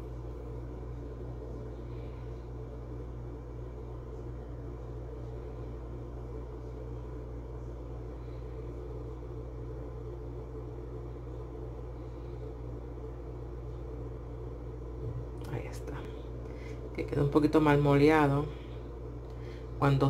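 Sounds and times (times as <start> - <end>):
steady low hum with tones: 0.0 - 20.0.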